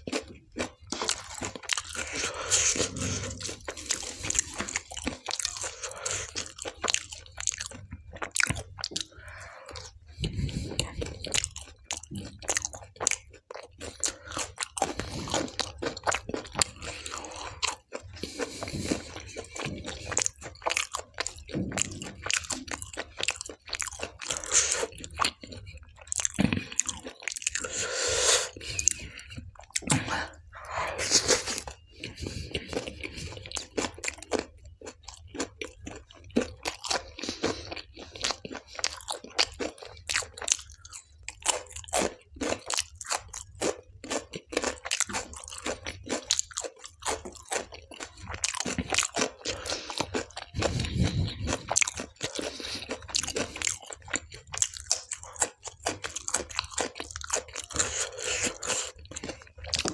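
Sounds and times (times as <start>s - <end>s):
person chewing wet food: 0.0s - 59.9s.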